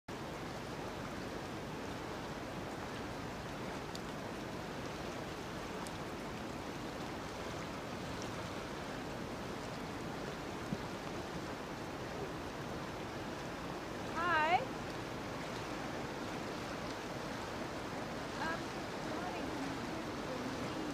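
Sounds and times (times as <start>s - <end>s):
floodwater rushing: 0.1s - 20.9s.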